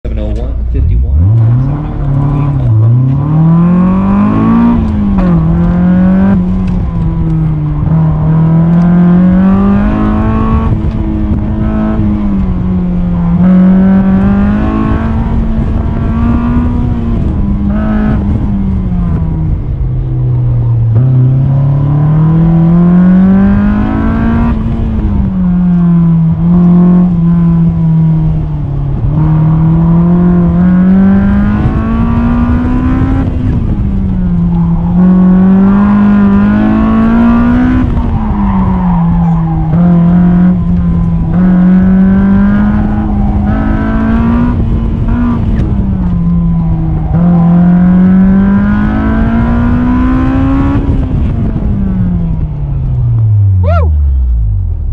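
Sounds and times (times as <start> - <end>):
car engine revving: 0.1 - 54.9.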